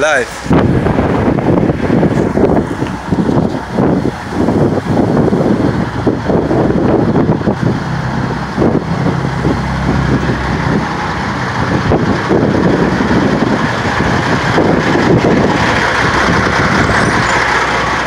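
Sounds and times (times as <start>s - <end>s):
diesel engine idling: 0.0s - 18.0s
wind buffeting microphone: 0.0s - 18.0s.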